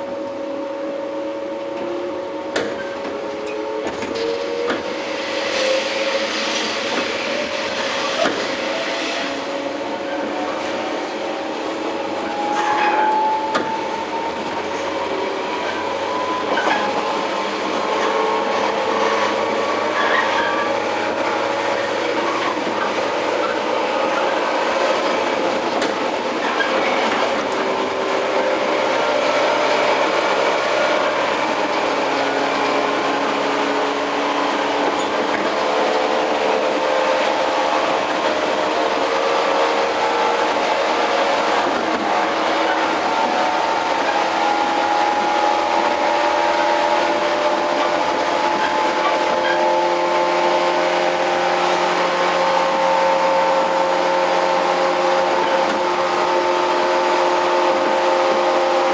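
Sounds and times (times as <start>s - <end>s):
wheels on rail: 1.5s - 58.9s.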